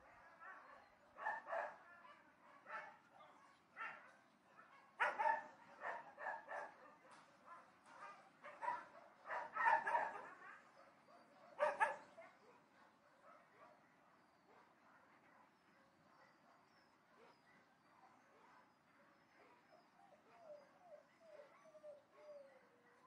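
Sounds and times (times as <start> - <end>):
distant dogs barking: 0.0 - 23.0.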